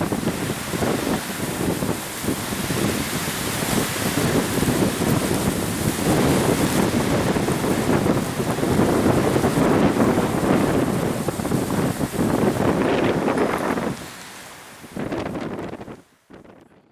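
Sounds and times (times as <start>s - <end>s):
hiss of blowing snow: 0.0s - 16.0s
wind buffeting microphone: 0.0s - 16.9s.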